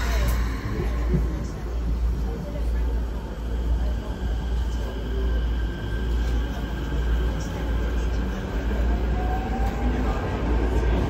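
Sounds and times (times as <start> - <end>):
train rumble inside car: 0.0 - 11.0.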